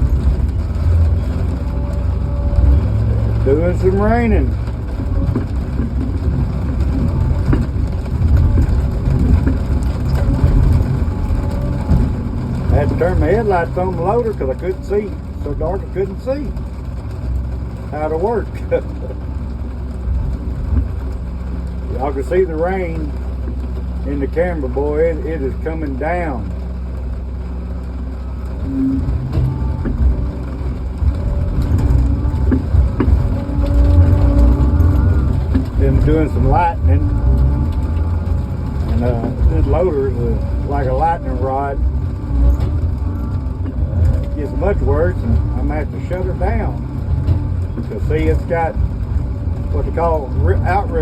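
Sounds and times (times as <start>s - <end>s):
heavy machine engine rumbling: 0.0s - 51.0s
heavy rain falling: 0.0s - 51.0s
hydraulic whine: 0.0s - 51.0s.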